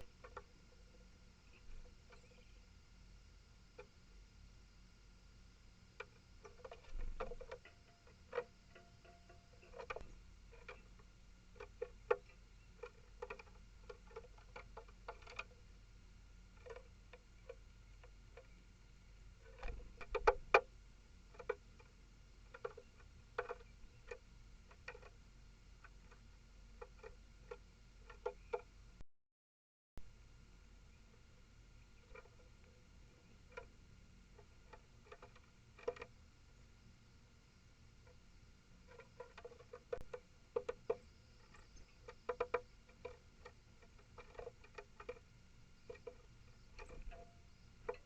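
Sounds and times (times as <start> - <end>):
animals pecking on bird table: 0.0 - 2.8, 5.8 - 28.8, 30.9 - 48.0.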